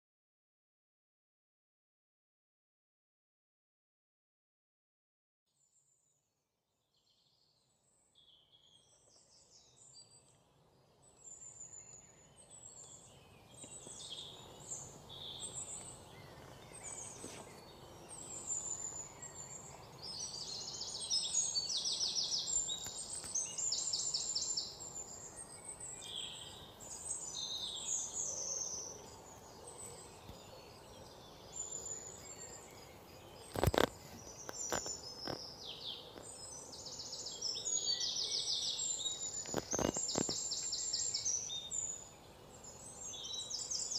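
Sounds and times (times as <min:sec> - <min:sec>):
small birds chirping: 0:06.8 - 0:43.9.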